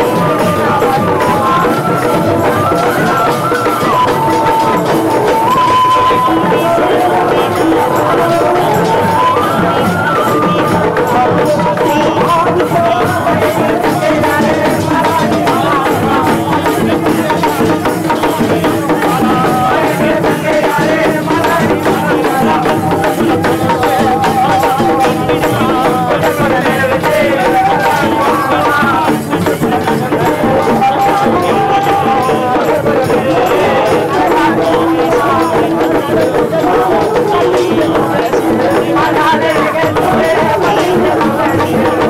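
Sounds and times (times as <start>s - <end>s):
crowd voices: 0.0s - 42.0s.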